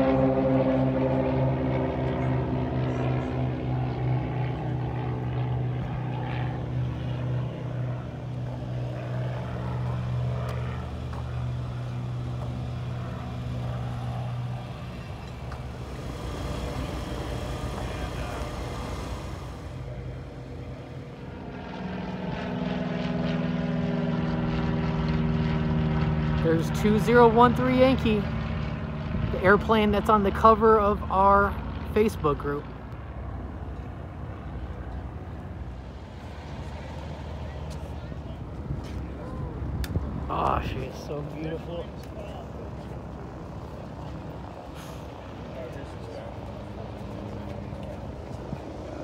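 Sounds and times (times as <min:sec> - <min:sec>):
light airplane engine drone: 0:00.0 - 0:49.0
second airplane engine drone: 0:00.0 - 0:49.0.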